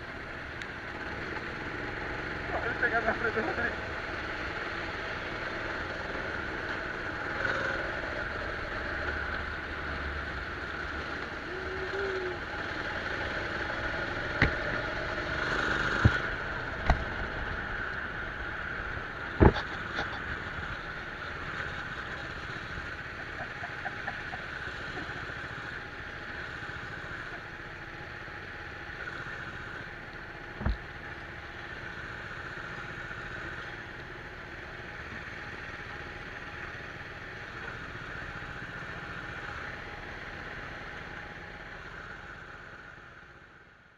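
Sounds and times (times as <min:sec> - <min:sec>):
go-kart engine running: 0:00.0 - 0:43.9.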